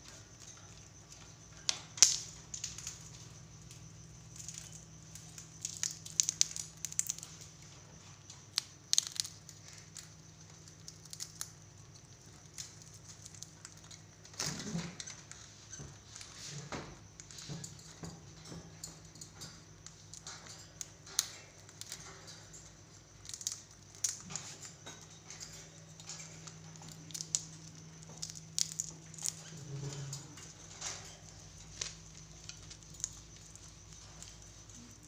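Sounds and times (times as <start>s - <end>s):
parakeets cracking peanut shells: 0.0s - 35.0s.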